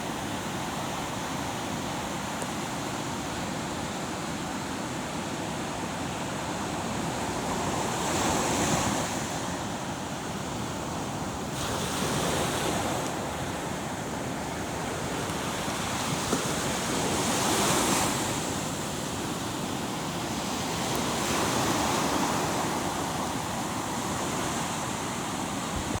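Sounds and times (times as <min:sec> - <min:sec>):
ocean waves washing on shore: 0:00.0 - 0:26.0.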